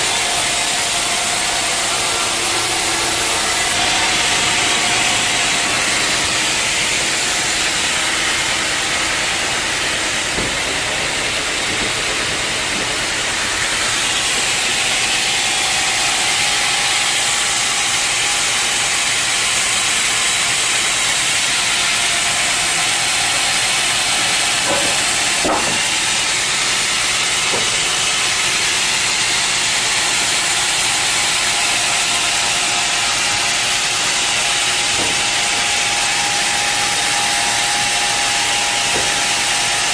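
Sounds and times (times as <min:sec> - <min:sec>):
saw blade cutting log: 0:00.0 - 0:39.9.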